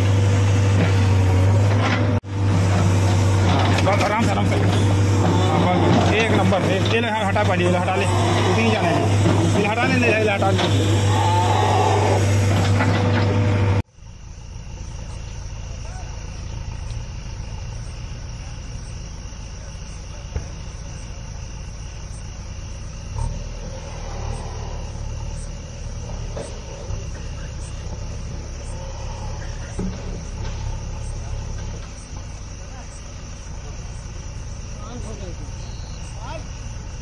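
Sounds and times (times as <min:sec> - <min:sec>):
diesel engine running loud: 0:00.0 - 0:37.0
distant engine rumble: 0:00.0 - 0:37.0
night insects buzzing: 0:00.0 - 0:37.0.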